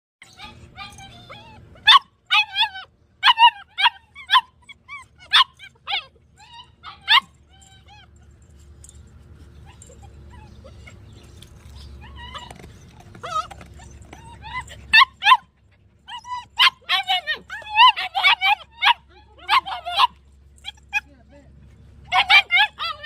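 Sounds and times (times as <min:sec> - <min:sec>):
dog yipping and whining: 0:00.2 - 0:21.1, 0:22.0 - 0:23.0.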